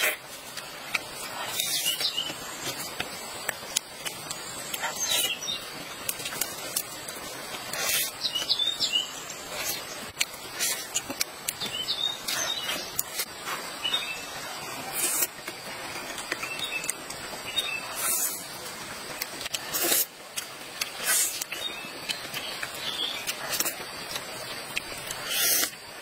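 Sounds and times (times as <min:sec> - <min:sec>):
crunchy chewing: 0:00.0 - 0:26.0
small birds chirping: 0:00.0 - 0:26.0.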